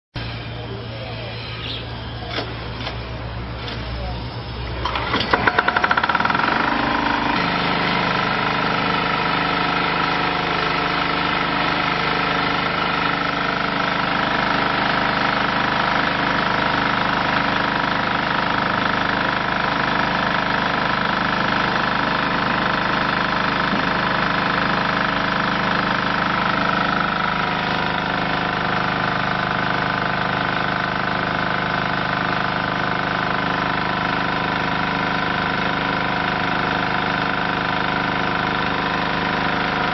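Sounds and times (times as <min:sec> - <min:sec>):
diesel engine running: 0:00.2 - 0:39.9
high machine whine: 0:00.2 - 0:39.9.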